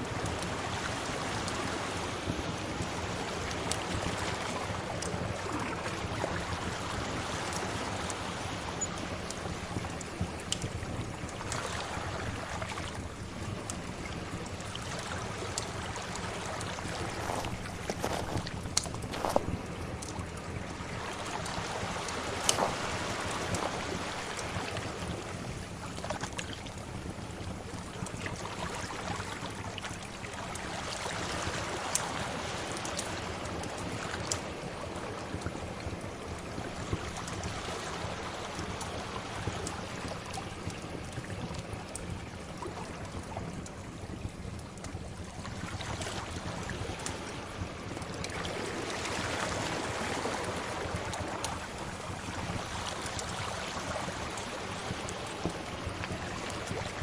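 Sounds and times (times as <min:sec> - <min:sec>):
sea waves washing in: 0:00.0 - 0:43.6, 0:45.2 - 0:57.0
wood fire crackling: 0:00.0 - 0:57.0.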